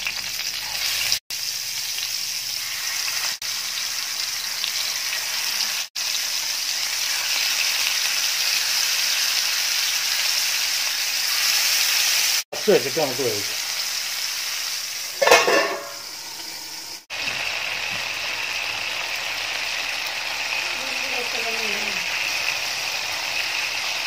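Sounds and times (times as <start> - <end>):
hot oil sizzling in a frying pan: 0.0 - 24.0.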